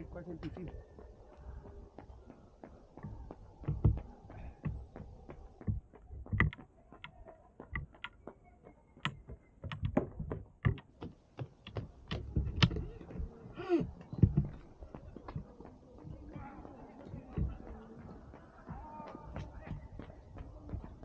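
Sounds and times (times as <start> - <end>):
sharp footsteps: 0.0 - 6.8, 7.5 - 21.0.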